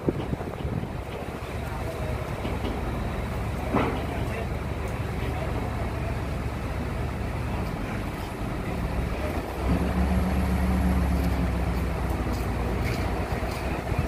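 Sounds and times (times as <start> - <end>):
crane engine revving: 0.4 - 14.0.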